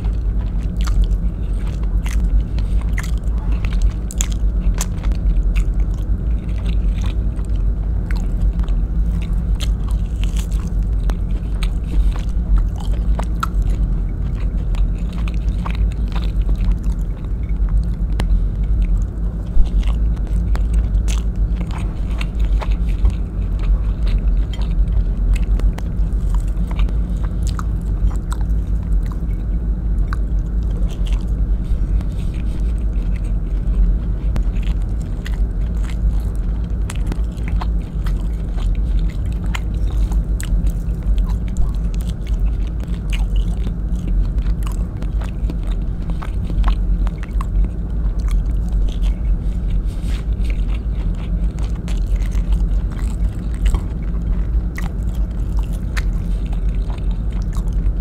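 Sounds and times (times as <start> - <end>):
close-miked chewing: 0.0 - 58.0
steady low hum: 0.0 - 58.0.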